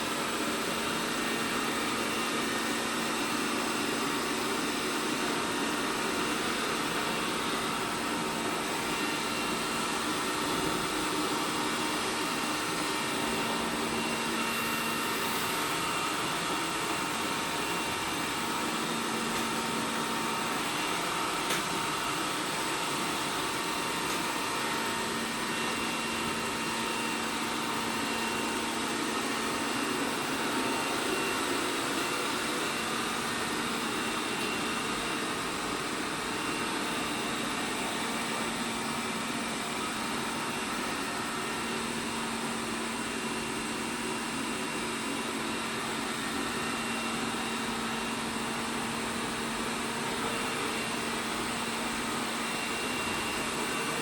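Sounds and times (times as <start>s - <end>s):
robot vacuum running: 0.0s - 54.0s.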